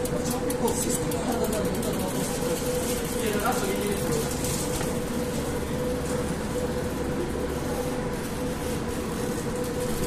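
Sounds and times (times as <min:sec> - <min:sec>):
metro car noise: 0:00.0 - 0:10.0
mid-pitched hum: 0:00.0 - 0:10.0.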